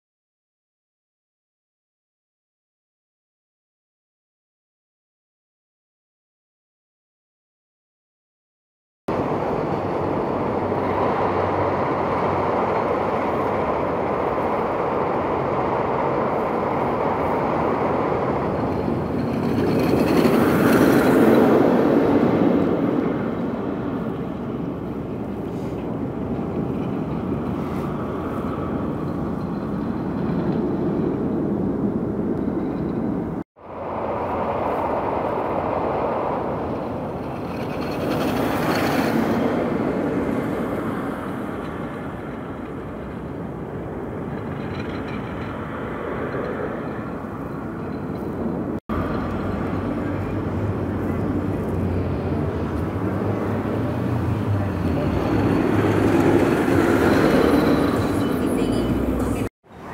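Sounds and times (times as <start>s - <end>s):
roller coaster wheels rumbling on track: 9.1s - 59.9s.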